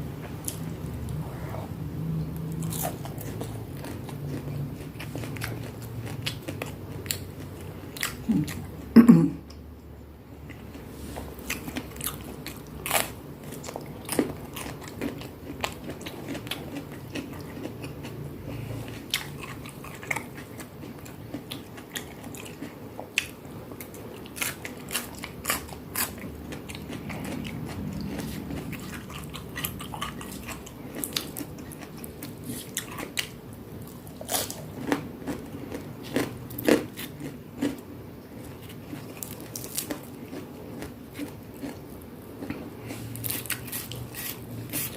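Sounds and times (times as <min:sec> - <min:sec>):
person chewing crunchy food: 0:02.4 - 0:08.8, 0:10.3 - 0:44.9.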